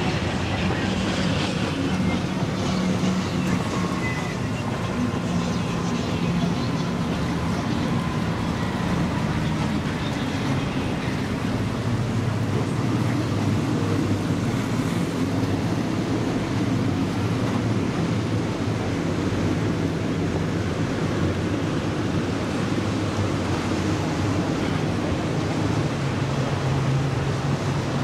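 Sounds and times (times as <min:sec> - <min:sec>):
powerboat engines humming: 0:00.0 - 0:28.0
rushing water: 0:00.0 - 0:28.0
wind: 0:00.0 - 0:28.0.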